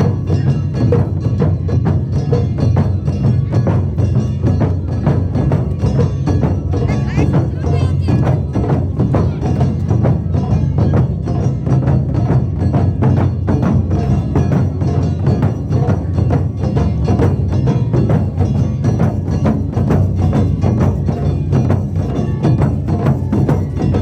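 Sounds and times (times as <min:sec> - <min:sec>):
taiko drums playing fast rhythm: 0:00.0 - 0:24.0.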